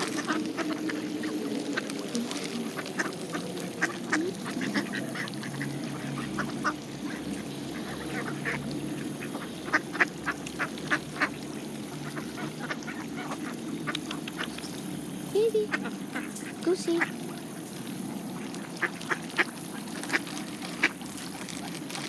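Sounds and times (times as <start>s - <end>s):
ducks quacking chatter: 0.0s - 17.4s, 18.4s - 21.2s
birds pecking clicks: 0.0s - 22.0s.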